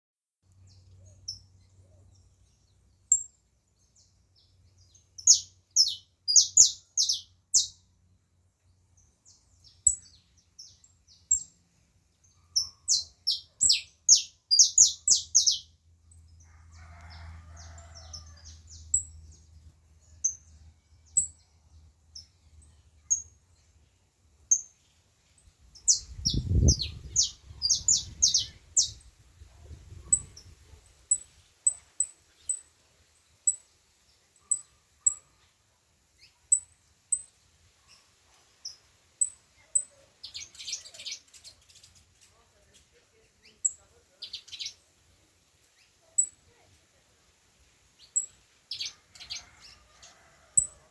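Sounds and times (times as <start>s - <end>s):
songbirds chirping: 0.4s - 50.9s.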